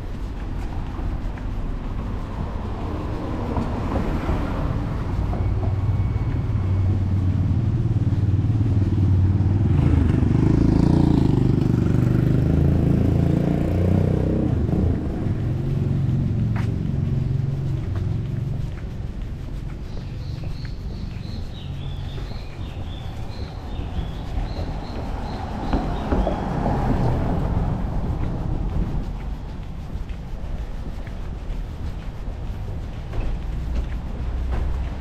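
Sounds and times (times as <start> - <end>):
vehicle engine passing: 0.0 - 35.0.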